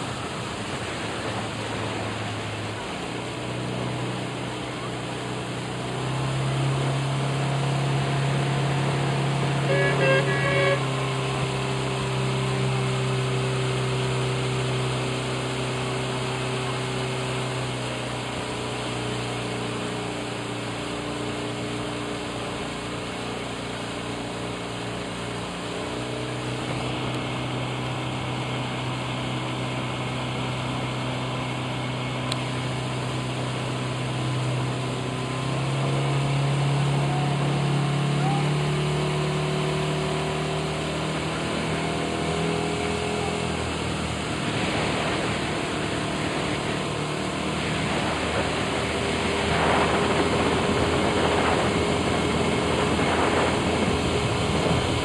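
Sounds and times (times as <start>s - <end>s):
motorboat engine droning: 0.0s - 55.0s.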